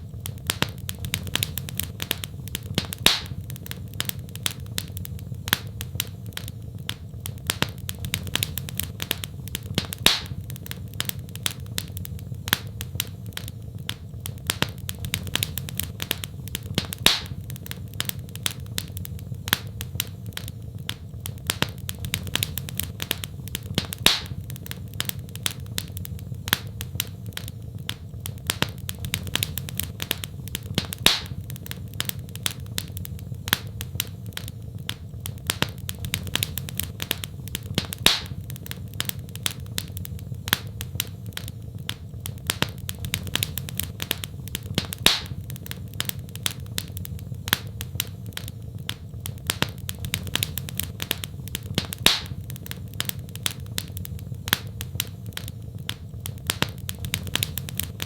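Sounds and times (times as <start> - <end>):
fire crackling: 0.0 - 58.0
low rumble of fire: 0.0 - 58.0
sharp pops of fire: 0.0 - 58.0.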